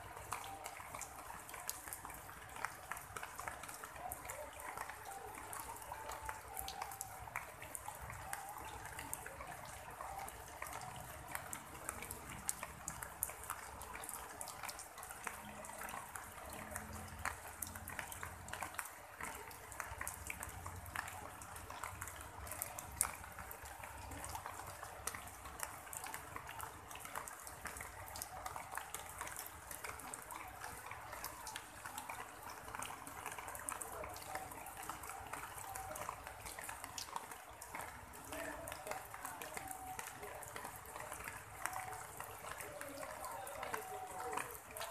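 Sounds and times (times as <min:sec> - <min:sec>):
rain pattering on leaves: 0:00.0 - 0:44.9.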